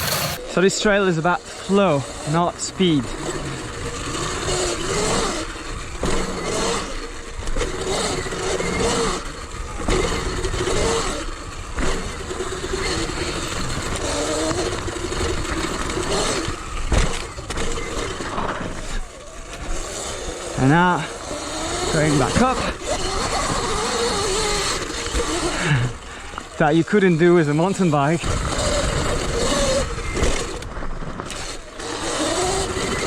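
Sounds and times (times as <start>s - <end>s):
electric dirt bike motor whine: 0.0s - 33.0s
wind and tyre noise: 0.0s - 33.0s.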